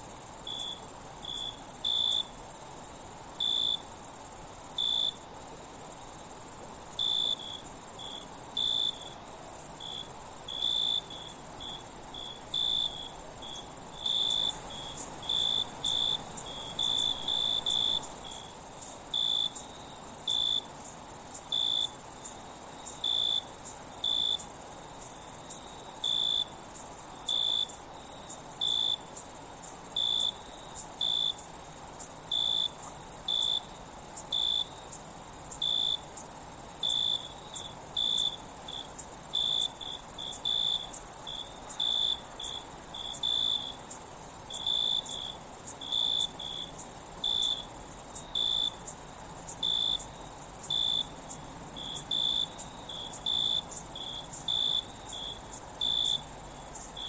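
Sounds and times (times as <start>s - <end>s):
cricket chirps: 0.0s - 57.0s.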